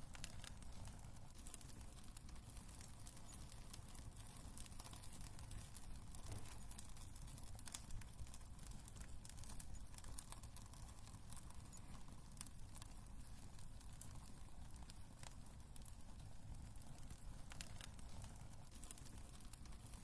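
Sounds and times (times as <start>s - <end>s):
burning wood crackling and popping: 0.0s - 20.0s
fire rumbling: 0.0s - 20.0s.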